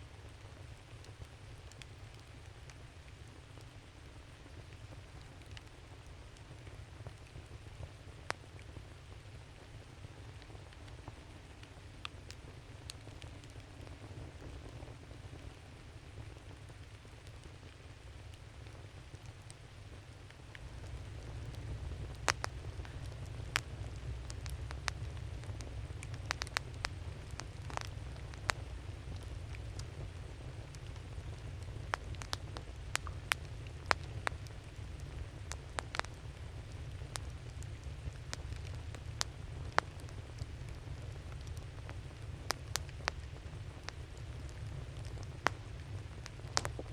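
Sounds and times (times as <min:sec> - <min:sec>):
campfire crackling: 0:00.0 - 0:46.9
low rumble and hiss: 0:00.0 - 0:46.9.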